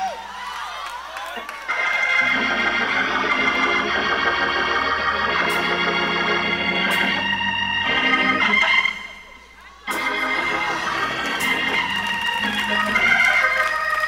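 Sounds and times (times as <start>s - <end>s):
organ playing held chords: 1.7s - 14.0s.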